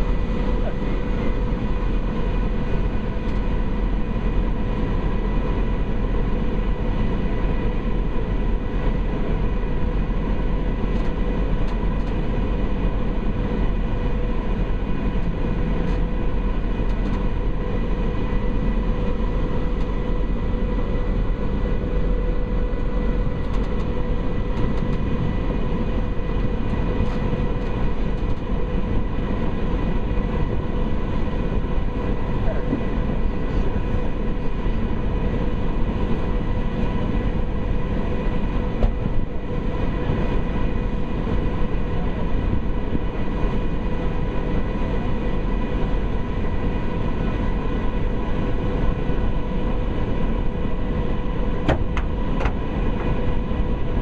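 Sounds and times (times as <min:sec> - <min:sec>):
ferry engine drone: 0:00.0 - 0:54.0.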